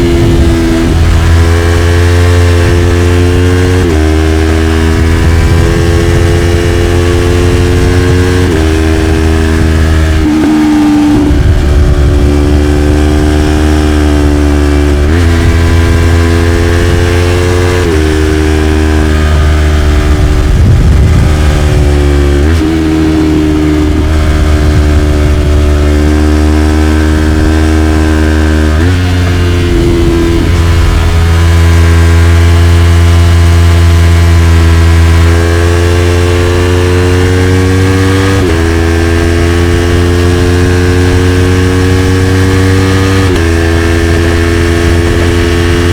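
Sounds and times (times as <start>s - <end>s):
motorcycle engine running hard: 0.0s - 45.9s.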